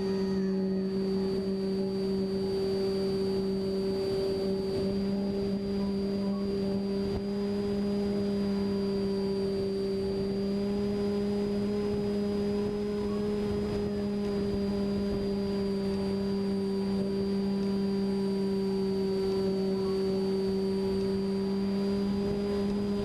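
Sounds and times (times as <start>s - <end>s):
steady humming drone: 0.0s - 23.0s.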